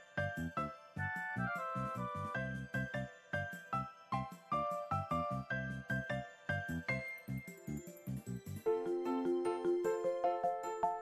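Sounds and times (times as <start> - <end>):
light melody notes: 0.0 - 11.0.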